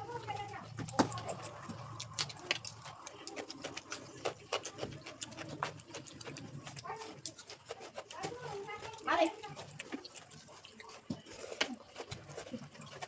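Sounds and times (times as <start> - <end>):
chewing and lip smacking: 0.0 - 13.0.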